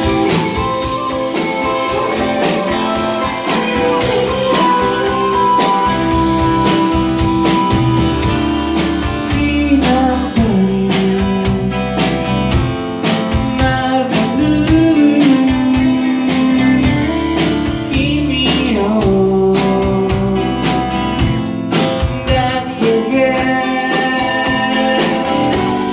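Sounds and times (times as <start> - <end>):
person singing: 0.0 - 12.2, 13.5 - 21.0, 22.0 - 25.9
live rock band playing: 0.0 - 25.9.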